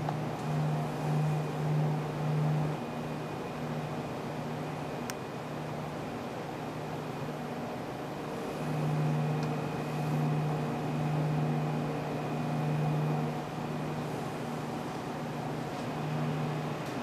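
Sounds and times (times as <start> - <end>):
faint high whine: 0.0 - 17.0
low mechanical hum: 0.0 - 17.0.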